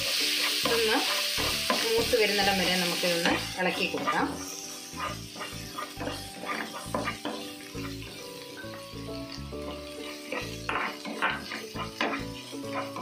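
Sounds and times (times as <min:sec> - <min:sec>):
spatula scraping a pan: 0:00.0 - 0:13.0
spices sizzling in oil: 0:00.0 - 0:13.0.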